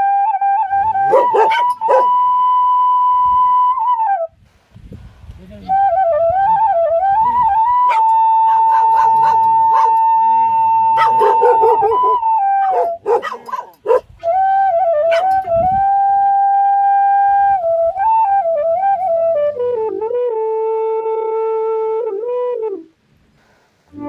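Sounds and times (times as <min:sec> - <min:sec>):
flute music: 0:00.0 - 0:04.4, 0:05.8 - 0:23.0.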